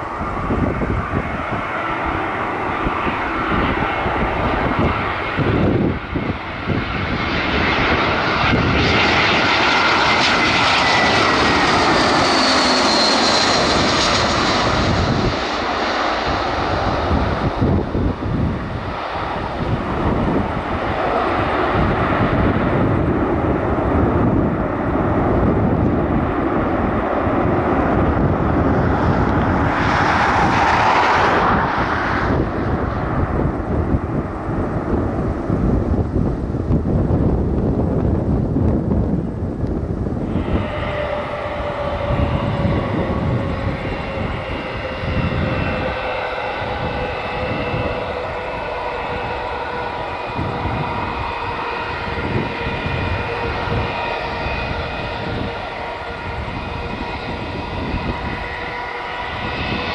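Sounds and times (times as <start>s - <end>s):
jet engines passing: 0.0s - 59.9s
wind buffeting microphone: 0.0s - 59.9s.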